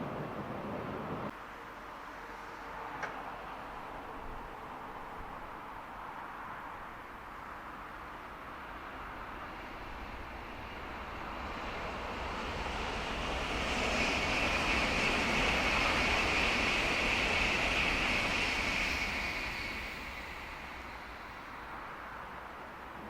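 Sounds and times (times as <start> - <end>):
freight train passing: 0.0 - 23.0.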